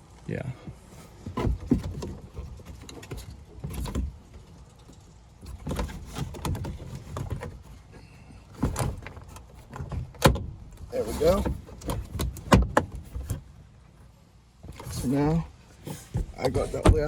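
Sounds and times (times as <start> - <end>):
knocks and scrapes: 0.7 - 13.6, 14.6 - 17.0.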